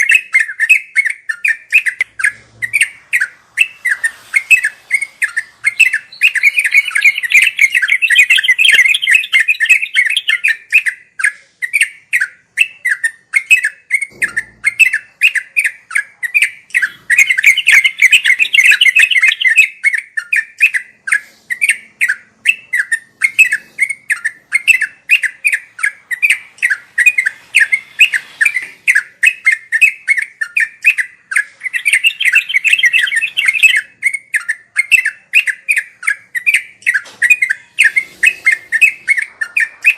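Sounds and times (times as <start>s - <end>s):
bird chattering calls: 0.0s - 11.0s, 11.7s - 39.9s.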